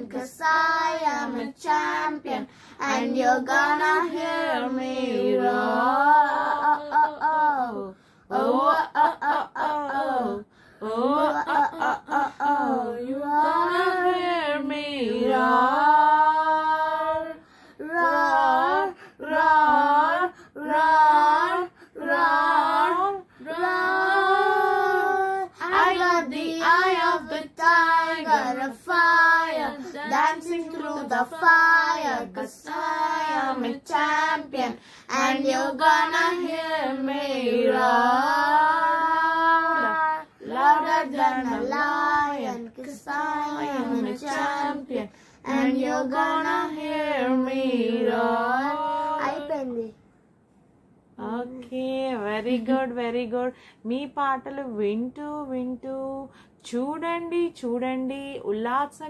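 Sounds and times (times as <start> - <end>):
girls and woman singing together: 0.0 - 50.0.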